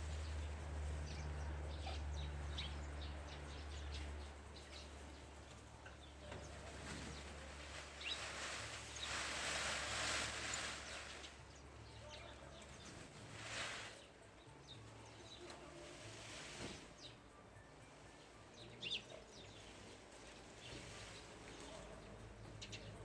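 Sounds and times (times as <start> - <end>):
birds chirping: 0.0 - 15.9, 16.7 - 23.0
soft background hiss: 2.6 - 23.0.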